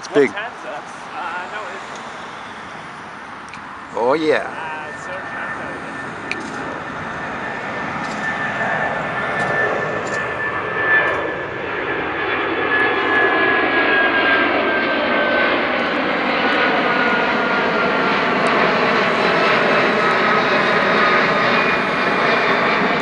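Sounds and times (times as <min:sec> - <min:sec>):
high engine whine: 0:00.0 - 0:23.0
jet engines roaring: 0:00.0 - 0:23.0.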